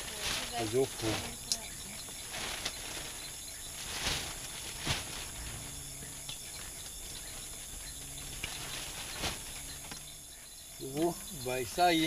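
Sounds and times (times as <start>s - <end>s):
firewood and paper rustling: 0.0s - 10.2s
night insects chirring: 0.0s - 12.0s.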